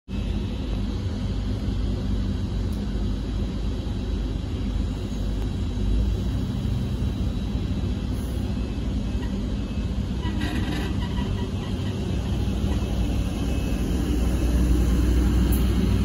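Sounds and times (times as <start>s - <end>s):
faint steady whine: 0.1s - 16.0s
train diesel engines rumbling: 0.1s - 16.0s.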